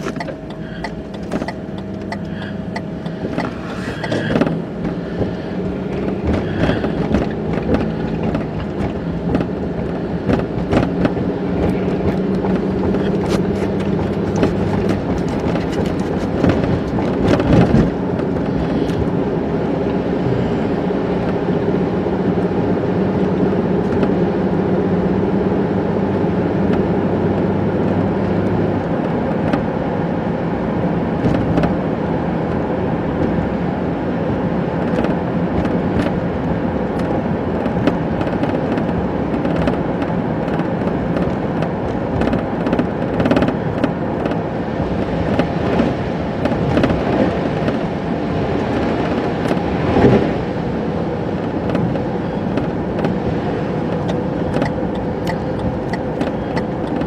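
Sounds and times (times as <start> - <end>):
car engine hum: 0.0 - 57.0
road and tyre noise: 0.0 - 57.0.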